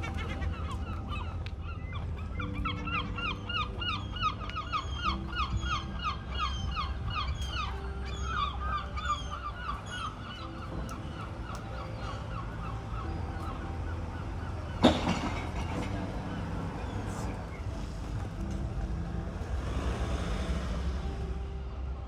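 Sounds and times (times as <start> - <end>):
gull calling: 0.0 - 18.4.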